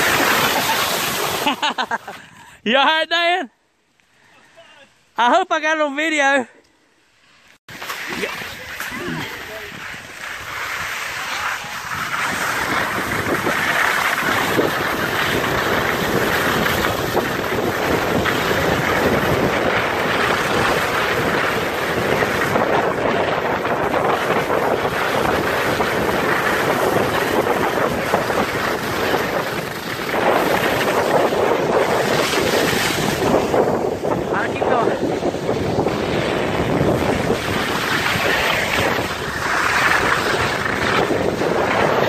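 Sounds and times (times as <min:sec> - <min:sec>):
sliding over snow: 0:00.0 - 0:02.6, 0:07.7 - 0:42.0
wind on microphone: 0:08.0 - 0:42.0.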